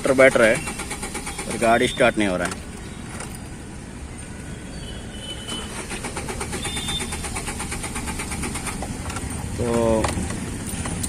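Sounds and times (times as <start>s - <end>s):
engine cranking without starting: 0.0s - 3.5s, 5.4s - 11.0s.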